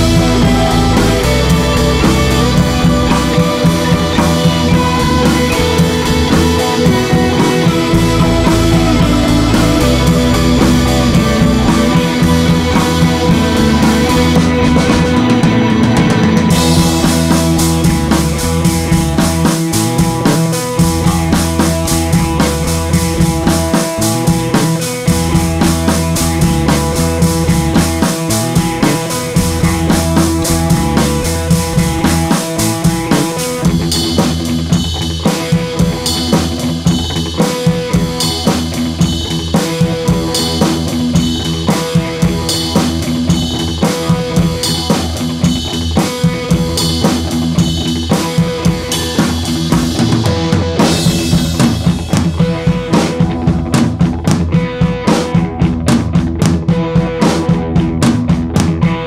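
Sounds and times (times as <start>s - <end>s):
drum-led background music: 0.0s - 59.0s.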